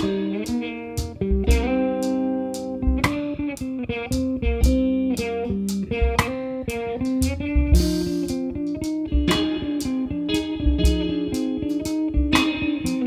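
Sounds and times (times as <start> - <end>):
drum kit and cymbal hits: 0.0 - 3.4, 4.1 - 13.0
bass guitar: 0.0 - 13.0
electric guitar chords: 0.0 - 13.0.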